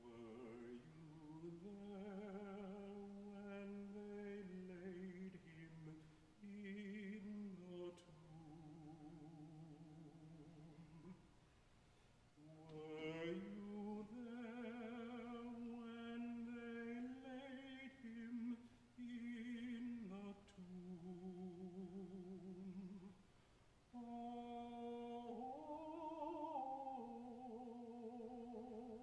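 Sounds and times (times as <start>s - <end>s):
man singing unaccompanied: 0.0s - 11.3s, 12.4s - 23.2s, 23.9s - 29.0s.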